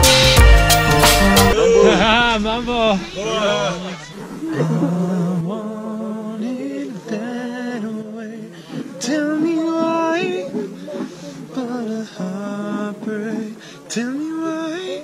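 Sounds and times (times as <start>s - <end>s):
person singing unaccompanied: 0.0s - 15.0s.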